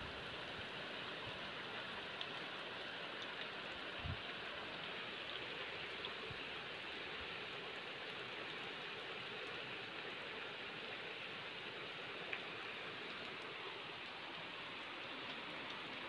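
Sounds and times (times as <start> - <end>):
heavy rain on standing water: 0.0 - 16.0.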